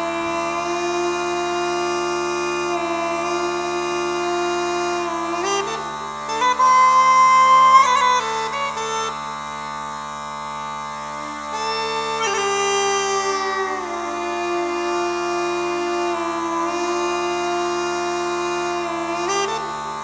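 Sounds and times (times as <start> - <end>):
pipe chanter melody: 0.0 - 9.7, 11.1 - 20.0
bagpipe drones: 0.0 - 20.0.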